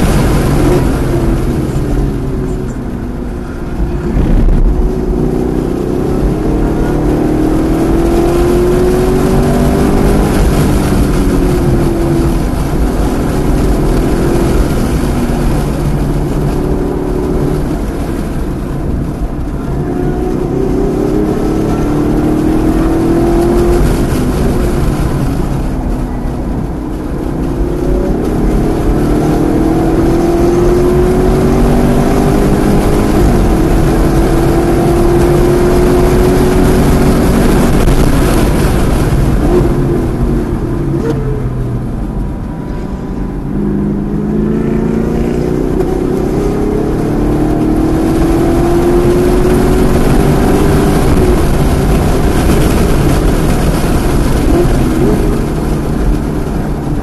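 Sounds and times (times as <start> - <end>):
car engine at full throttle: 0.0 - 57.0
wind noise: 0.0 - 57.0.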